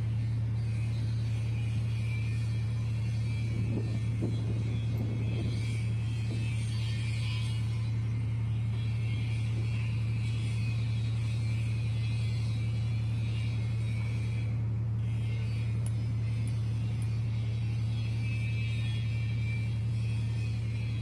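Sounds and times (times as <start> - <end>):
diesel machinery droning: 0.0 - 21.0.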